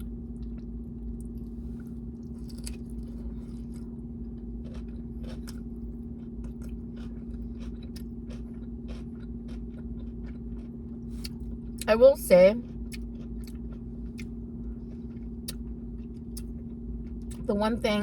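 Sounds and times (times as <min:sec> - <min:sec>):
chewing and mouth sounds: 0:00.0 - 0:11.9, 0:12.6 - 0:17.5
steady low hum: 0:00.0 - 0:18.0.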